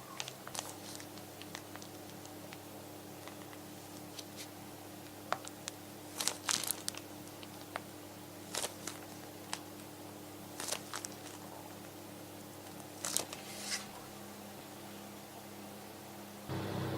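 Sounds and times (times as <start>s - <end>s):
crinkling rustles: 0.0s - 14.2s.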